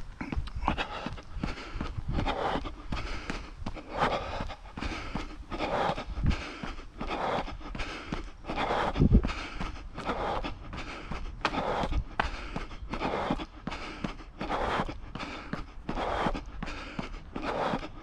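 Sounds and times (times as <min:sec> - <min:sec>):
running footsteps on a path: 0:00.0 - 0:18.0
panting breaths: 0:00.2 - 0:18.0.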